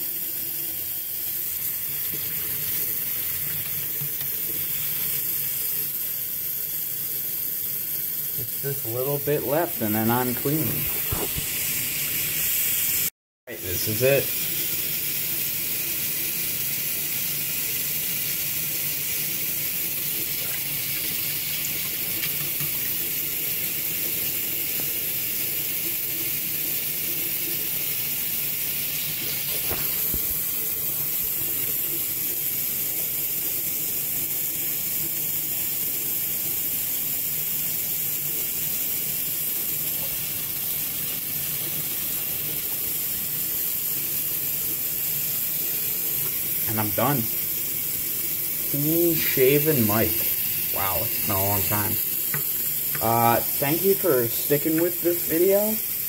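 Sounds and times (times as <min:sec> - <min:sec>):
water running from tap: 0:00.0 - 0:56.0.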